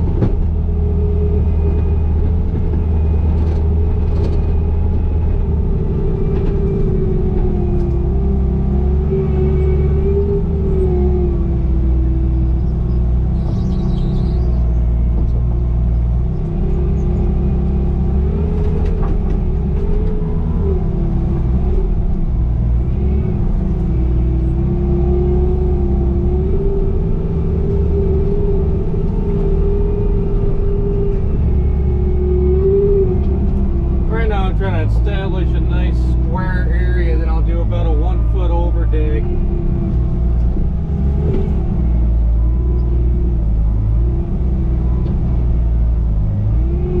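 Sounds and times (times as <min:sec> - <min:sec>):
diesel engine rumbling: 0:00.0 - 0:47.0.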